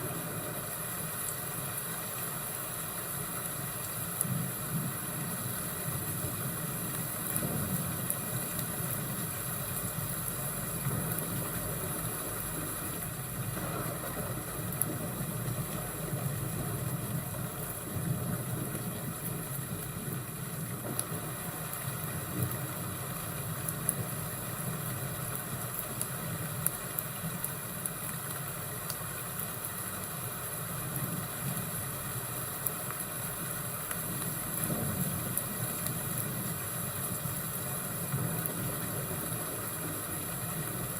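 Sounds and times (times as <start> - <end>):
fire crackling: 0.0 - 40.9
thunderstorm rumble and hiss: 0.0 - 40.9.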